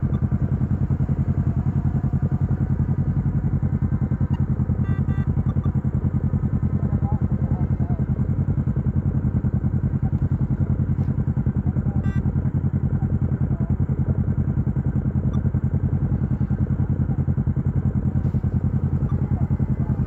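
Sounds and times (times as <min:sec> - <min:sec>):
dirt bike engine idling: 0:00.0 - 0:20.0.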